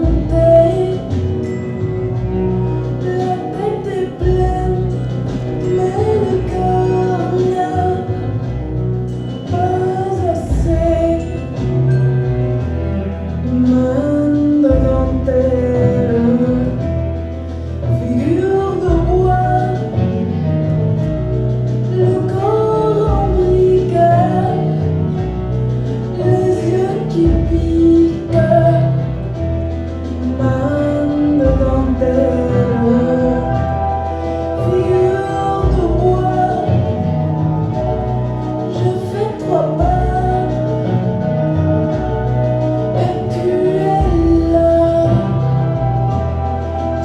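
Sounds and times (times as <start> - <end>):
long held bass notes: 0.0 - 47.0
slow song with singing: 0.0 - 47.0.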